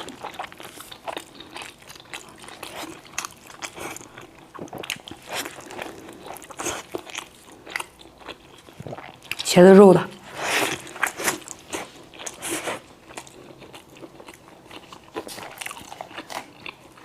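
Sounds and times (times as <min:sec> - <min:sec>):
person chewing with wet mouth smacks: 0:00.0 - 0:09.5, 0:10.3 - 0:17.0.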